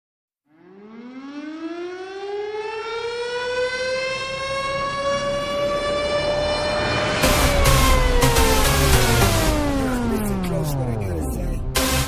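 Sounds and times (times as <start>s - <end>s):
warning siren rising tone: 0.5s - 12.0s.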